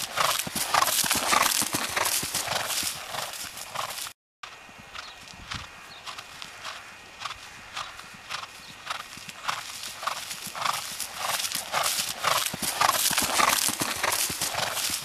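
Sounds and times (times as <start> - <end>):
horse cantering on grass: 0.0 - 15.0.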